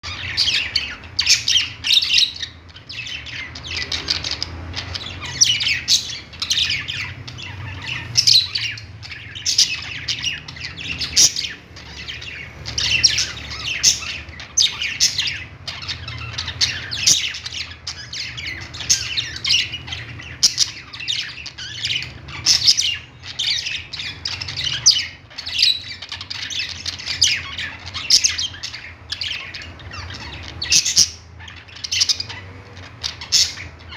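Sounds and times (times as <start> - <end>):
budgerigars chirping and squawking: 0.0 - 33.9.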